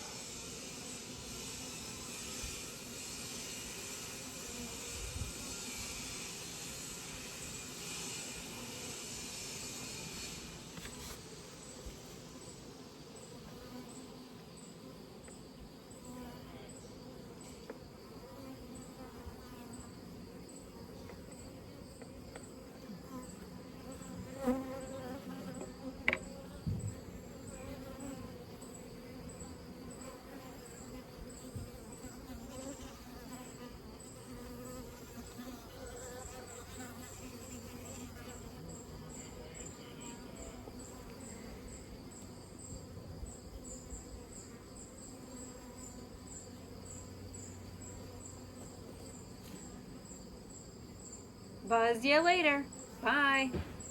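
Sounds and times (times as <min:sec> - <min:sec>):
honeybees buzzing: 0:00.0 - 0:53.9.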